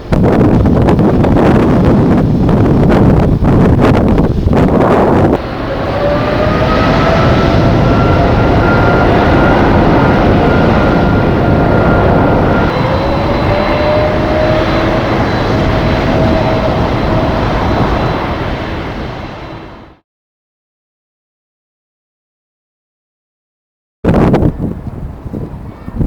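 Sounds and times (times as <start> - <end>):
jet engines rushing and whining: 0.0 - 20.0, 24.1 - 26.0.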